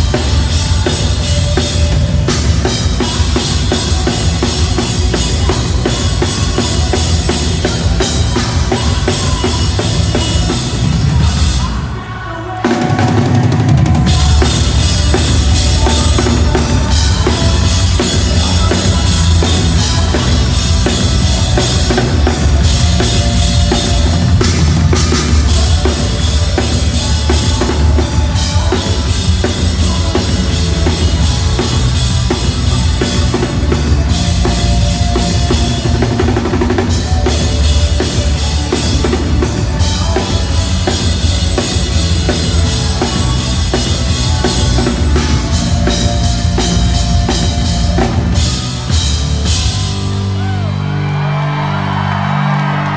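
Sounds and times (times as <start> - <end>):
drums: 0.0 - 52.9
live pop-punk band: 0.0 - 52.9.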